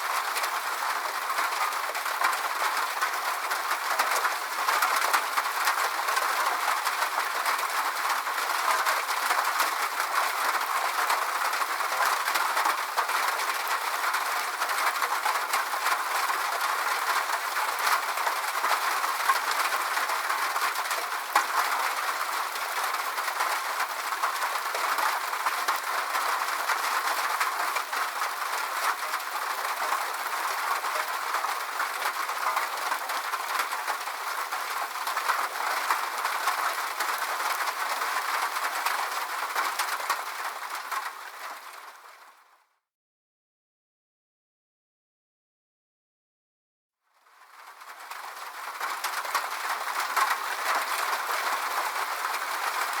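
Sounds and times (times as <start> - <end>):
steady rain: 0.0 - 42.5, 47.2 - 53.0.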